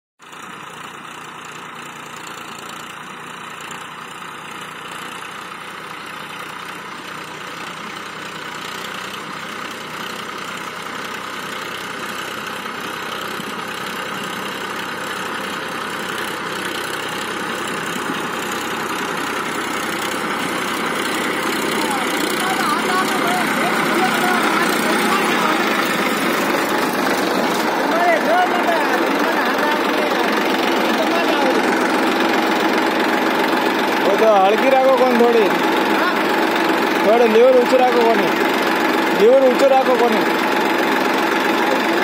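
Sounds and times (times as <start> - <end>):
tractor diesel engine under load: 0.2 - 42.0.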